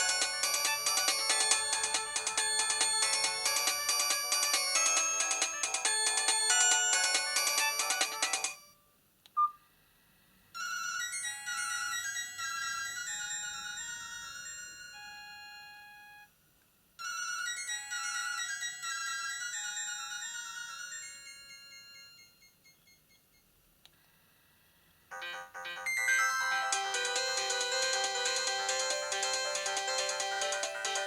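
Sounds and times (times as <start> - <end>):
fuller louder ringtone: 0.0 - 8.8, 10.6 - 16.3, 17.0 - 23.3, 25.1 - 31.0
phone ringtone melody: 0.0 - 8.8, 10.6 - 16.3, 17.0 - 22.9, 25.1 - 31.0.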